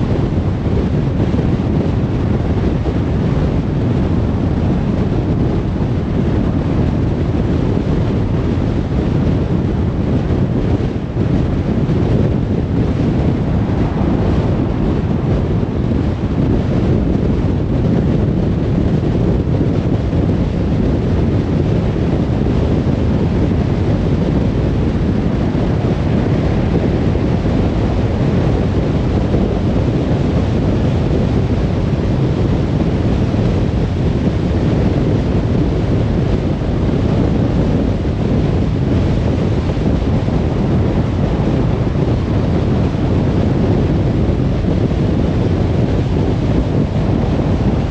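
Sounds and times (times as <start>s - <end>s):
rushing wind: 0.0s - 47.9s.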